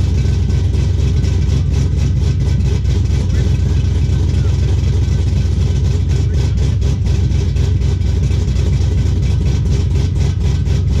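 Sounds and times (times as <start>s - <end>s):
loud choppy car engine idling: 0.0s - 11.0s.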